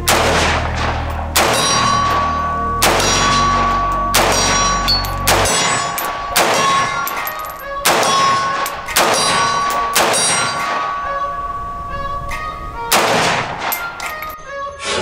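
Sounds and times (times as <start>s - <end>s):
steel targets pinging: 1.5s - 14.4s.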